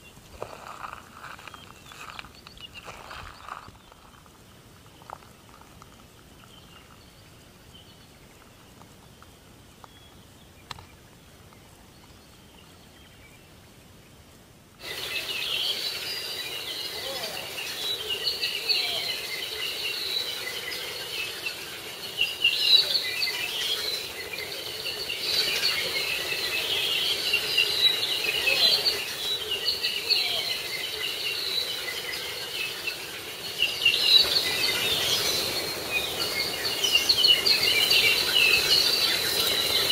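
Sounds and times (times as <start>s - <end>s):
insects chirping: 0.0s - 8.5s, 14.8s - 39.9s
birds chirping: 0.0s - 39.9s.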